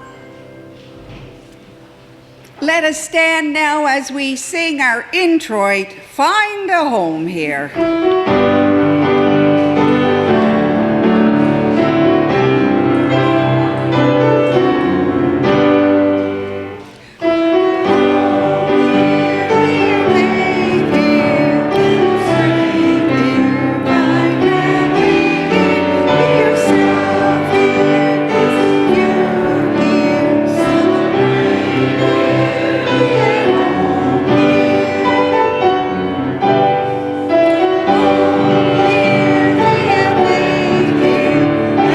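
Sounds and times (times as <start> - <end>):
piano accompaniment: 0.0 - 4.1, 7.7 - 41.9
congregation singing a hymn: 7.8 - 41.9.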